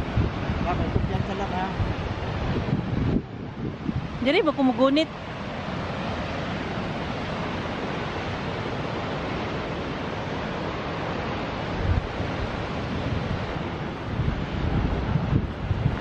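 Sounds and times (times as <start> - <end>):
waterfall roaring: 0.0 - 16.0
wind: 0.0 - 16.0
wind buffeting microphone: 0.0 - 16.0.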